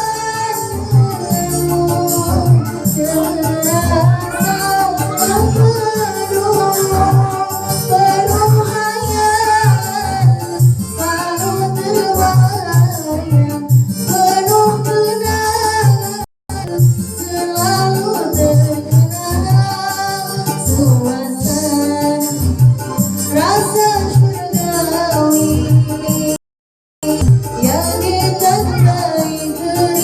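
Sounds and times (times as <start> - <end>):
backing music with bass beat: 0.0 - 26.4, 27.0 - 30.0
person singing: 0.0 - 26.4, 27.0 - 30.0.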